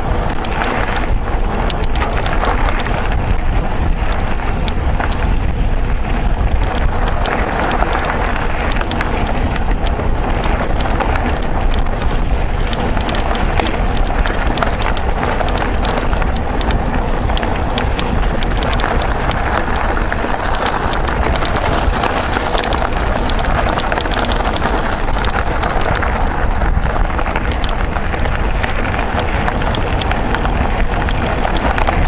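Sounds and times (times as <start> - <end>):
bike rattles and clicks: 0.0 - 32.0
bike tyre noise on rough track: 0.0 - 32.0
wind rumble on microphone: 0.0 - 32.0.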